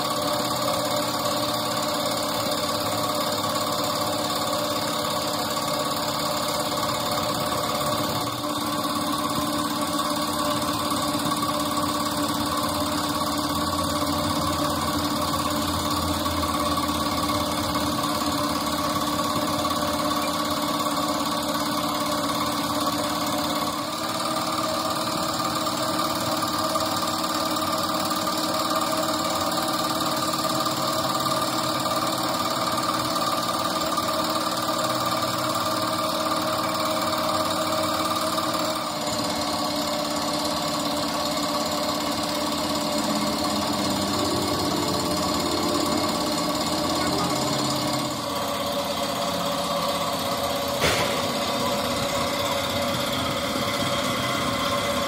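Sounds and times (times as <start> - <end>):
machine motor humming: 0.0 - 55.0.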